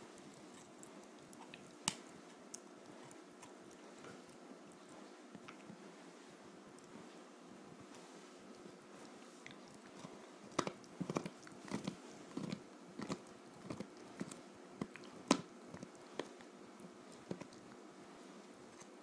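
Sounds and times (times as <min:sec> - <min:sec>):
puppy gnawing a bone: 0:00.0 - 0:05.8, 0:07.8 - 0:19.0.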